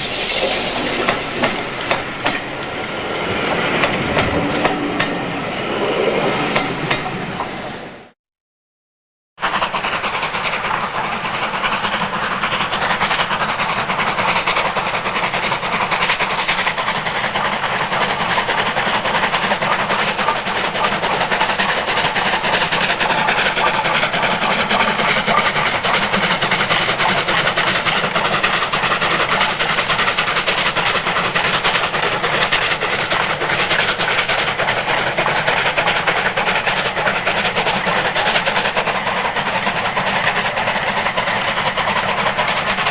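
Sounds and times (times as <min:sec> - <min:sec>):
train running on the line: 0:00.0 - 0:08.2, 0:09.4 - 0:42.9.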